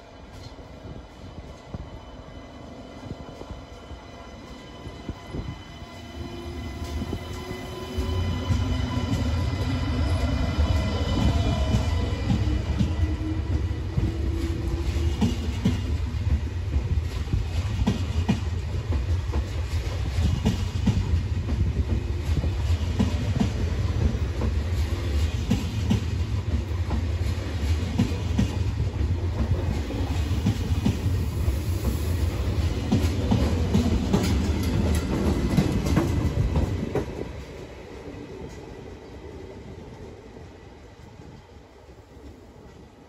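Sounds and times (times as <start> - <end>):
train rolling past: 0.0 - 43.0.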